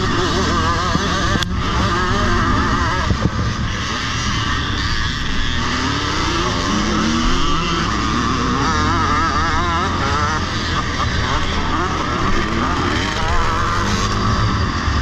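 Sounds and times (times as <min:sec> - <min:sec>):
motocross motorcycles racing: 0:00.0 - 0:15.0.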